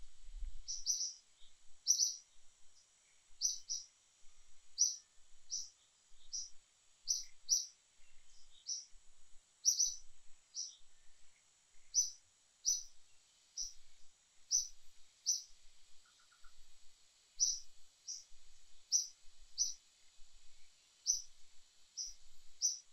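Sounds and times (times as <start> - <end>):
high-pitched outdoor hiss: 0.0 - 22.9
bird chirping: 0.6 - 3.9, 4.7 - 9.0, 9.6 - 16.8, 17.4 - 19.8, 20.5 - 22.9.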